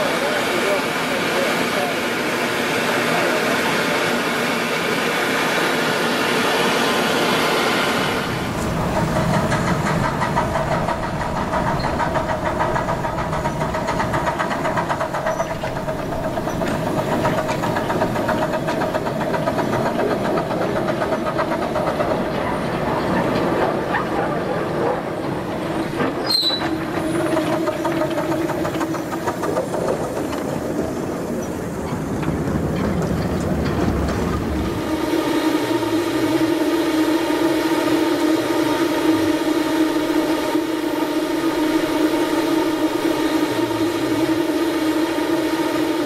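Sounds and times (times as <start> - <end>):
small train passing on rails: 0.0 - 46.0.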